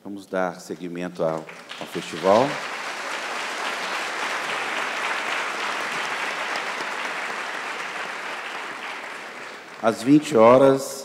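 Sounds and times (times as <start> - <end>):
audience applauding: 1.3 - 10.7.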